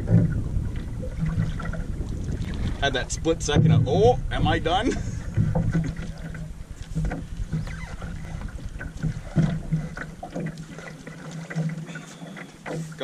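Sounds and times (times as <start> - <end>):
water lapping against canoe hull: 0.0 - 13.0.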